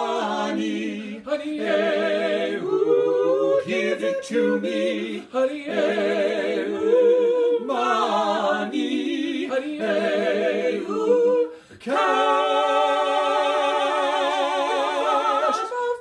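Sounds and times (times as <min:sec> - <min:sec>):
voices singing in harmony: 0:00.0 - 0:16.0.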